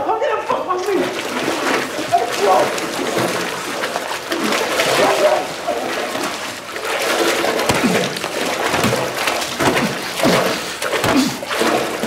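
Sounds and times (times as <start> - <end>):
thrashing and scuffling: 0.8 - 12.0.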